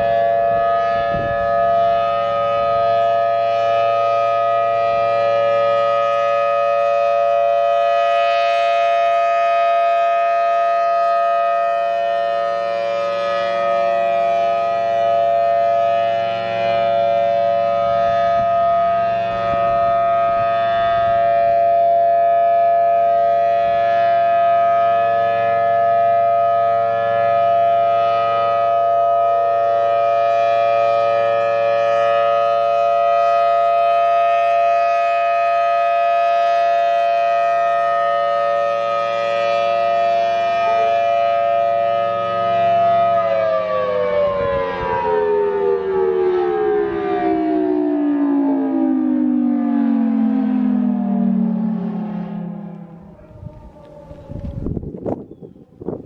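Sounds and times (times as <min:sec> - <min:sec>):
tornado siren: 0:00.0 - 0:56.0.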